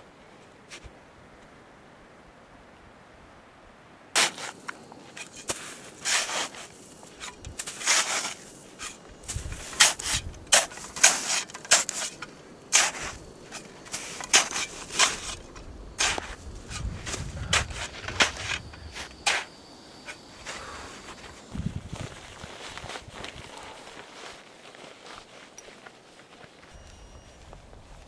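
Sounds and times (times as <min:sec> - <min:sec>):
footsteps crunching in snow: 0:04.2 - 0:28.0.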